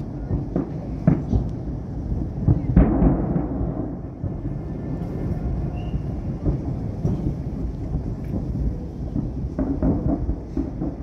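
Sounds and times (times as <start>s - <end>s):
distant fireworks booms: 0.0s - 11.0s
low echoing rumble: 0.0s - 11.0s.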